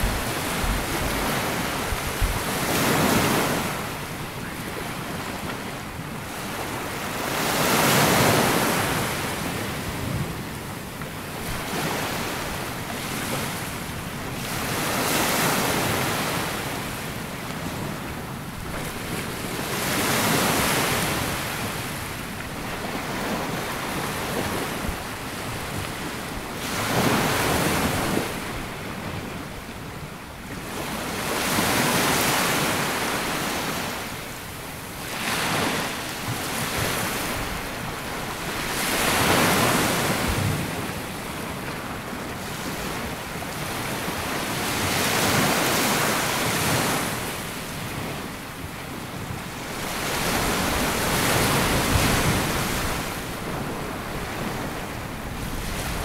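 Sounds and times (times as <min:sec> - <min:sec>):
waves washing up a beach: 0:00.0 - 0:56.0
wind on microphone: 0:00.0 - 0:56.0.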